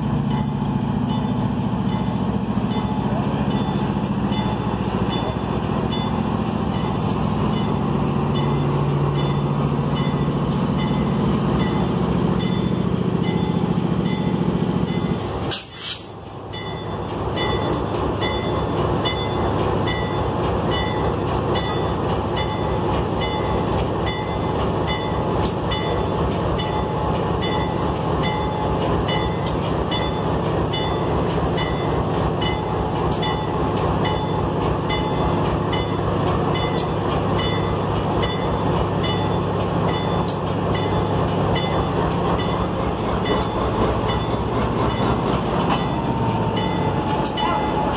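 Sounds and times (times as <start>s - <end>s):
locomotive engine running: 0.0s - 47.9s.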